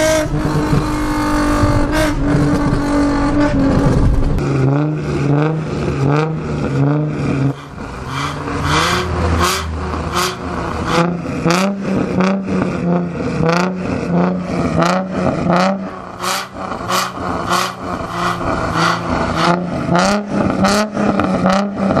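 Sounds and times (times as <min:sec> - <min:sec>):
car engine revving in throttle blips: 0:00.0 - 0:22.0.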